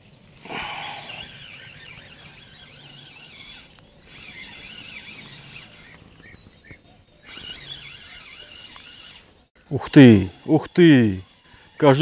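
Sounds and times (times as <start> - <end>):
fishing reel squealing: 0.4 - 6.5, 7.2 - 12.0.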